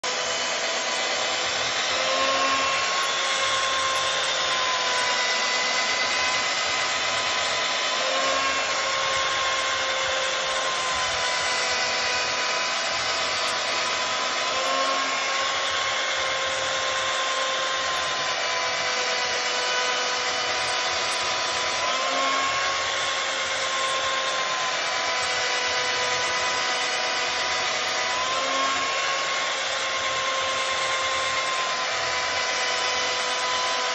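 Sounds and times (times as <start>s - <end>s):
chain mortiser cutting wood: 0.0s - 33.9s.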